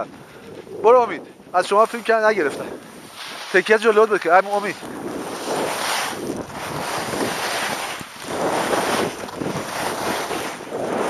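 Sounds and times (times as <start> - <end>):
wind on microphone: 0.0 - 11.0
skis sliding on snow: 0.2 - 11.0.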